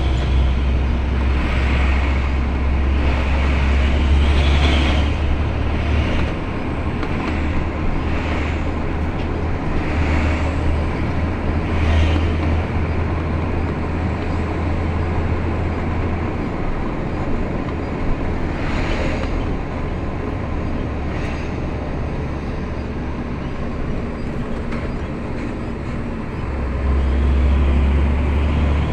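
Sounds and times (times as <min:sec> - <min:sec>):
low engine rumble: 0:00.0 - 0:28.9
road noise: 0:00.0 - 0:28.9.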